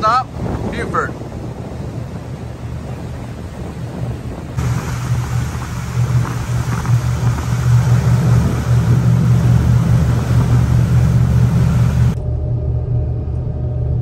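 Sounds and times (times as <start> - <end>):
boat engines droning: 0.0 - 12.2
water rushing from hull: 0.0 - 12.2.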